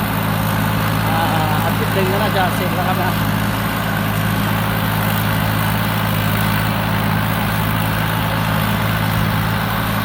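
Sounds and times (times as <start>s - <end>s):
combine harvester engine hum: 0.0s - 10.0s.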